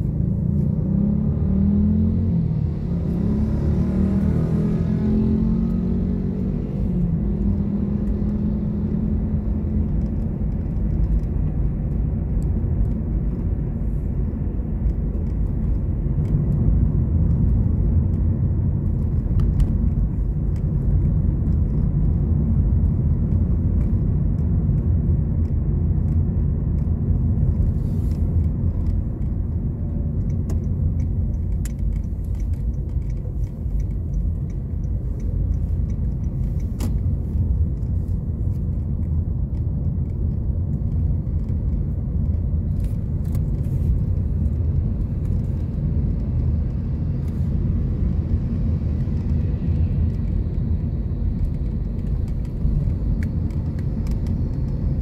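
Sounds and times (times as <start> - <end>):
car engine rumble: 0.0 - 55.0
tyre road noise: 0.0 - 55.0.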